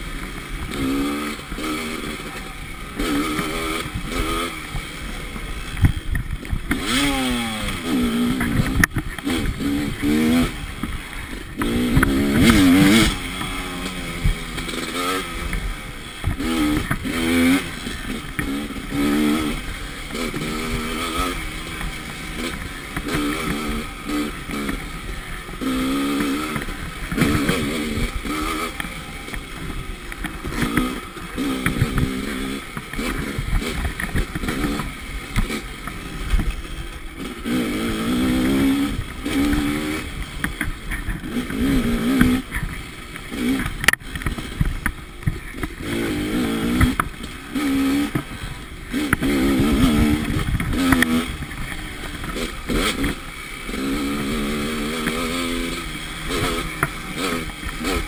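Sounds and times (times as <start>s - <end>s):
dirt bike engine revving: 0.0s - 58.0s
noisy rush: 0.0s - 58.0s.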